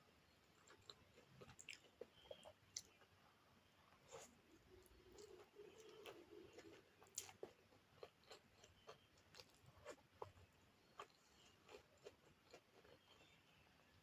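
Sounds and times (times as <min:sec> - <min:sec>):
person chewing food: 0:00.4 - 0:14.0.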